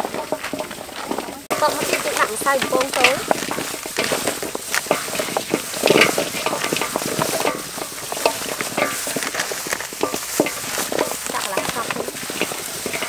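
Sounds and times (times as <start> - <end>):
chicken feet crackling in a basin: 0.0 - 13.0.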